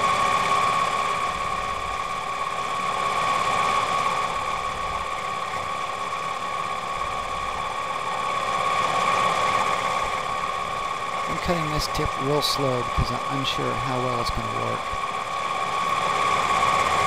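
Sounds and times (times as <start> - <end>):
lathe motor whine: 0.0 - 17.0.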